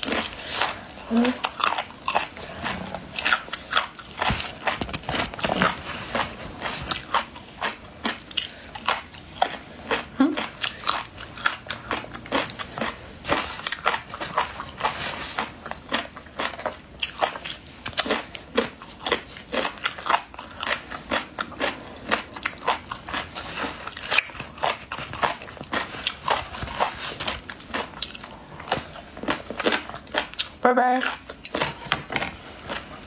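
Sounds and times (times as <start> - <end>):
crunching and chewing snack: 0.0 - 33.0.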